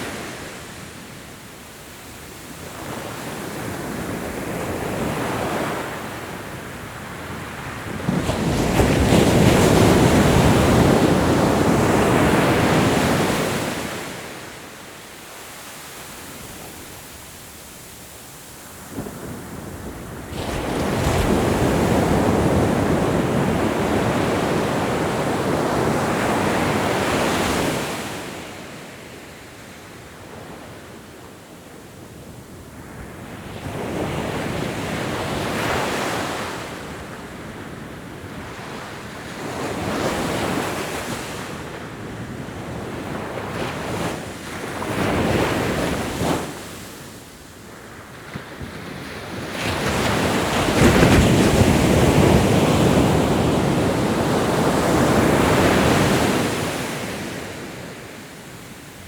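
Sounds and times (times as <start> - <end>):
ocean waves surging and washing back: 0.0 - 59.0.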